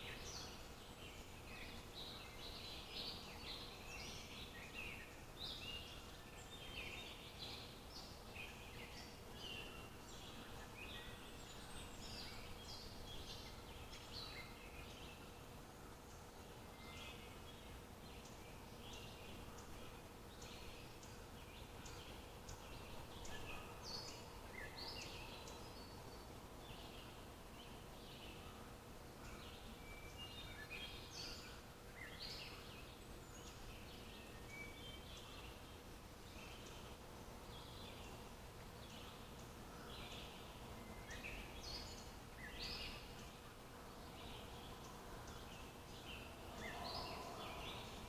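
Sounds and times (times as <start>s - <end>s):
background hiss: 0.0s - 48.0s
faint steady hum: 0.0s - 48.0s
small birds chirping: 0.0s - 48.0s.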